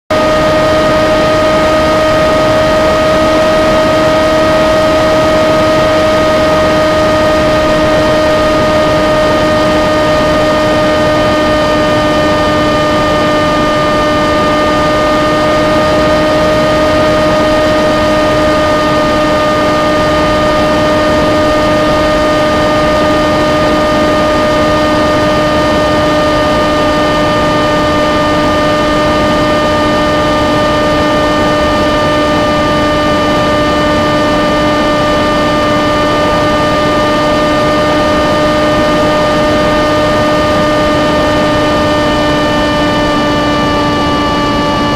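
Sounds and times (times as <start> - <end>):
propeller drone: 0.0 - 44.9.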